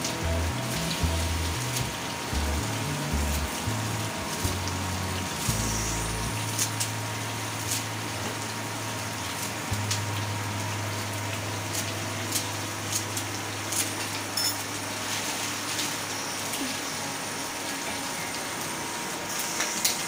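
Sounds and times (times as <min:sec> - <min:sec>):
low steady hum: 0:00.0 - 0:19.3.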